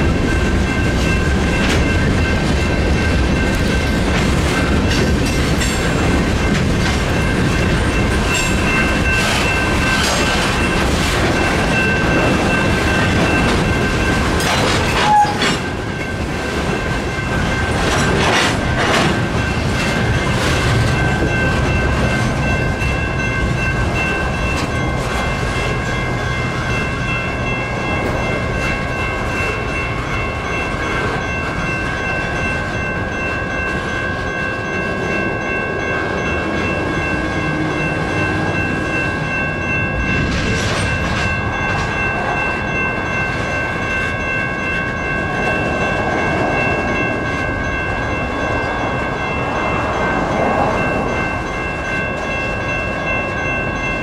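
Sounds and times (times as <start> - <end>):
freight train rumbling: 0.0 - 54.0
railroad crossing bells ringing: 0.0 - 54.0.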